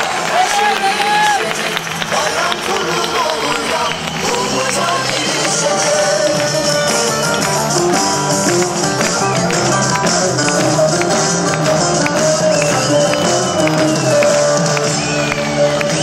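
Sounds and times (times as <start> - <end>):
crowd clapping along: 0.0 - 16.0
loud music with steady beat: 0.0 - 16.0.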